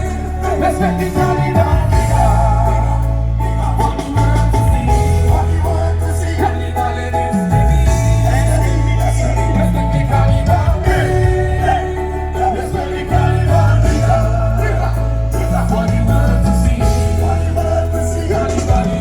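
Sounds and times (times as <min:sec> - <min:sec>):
live band playing: 0:00.0 - 0:19.0
person singing: 0:00.0 - 0:19.0.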